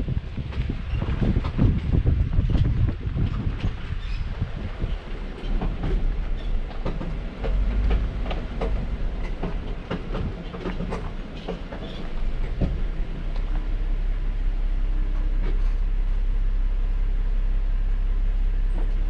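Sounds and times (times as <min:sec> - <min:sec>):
vehicle rumbling on dirt road: 0:00.0 - 0:19.0.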